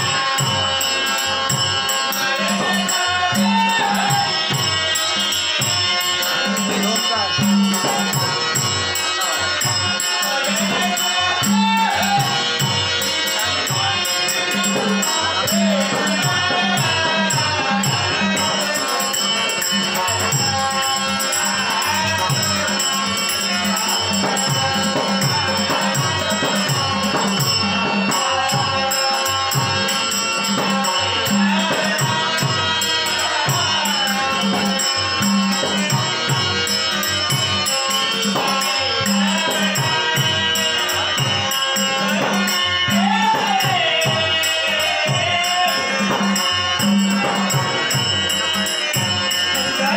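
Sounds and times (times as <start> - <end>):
harmonium drone: 0.0 - 49.9
man singing: 0.0 - 49.9.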